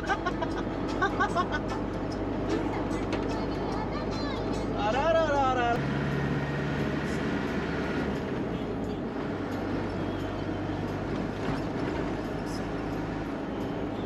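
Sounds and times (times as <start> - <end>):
vehicle running hum: 0.0 - 14.0.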